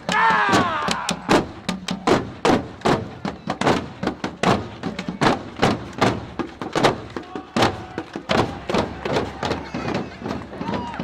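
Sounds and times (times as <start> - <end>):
marching drums pounding: 0.0 - 11.0.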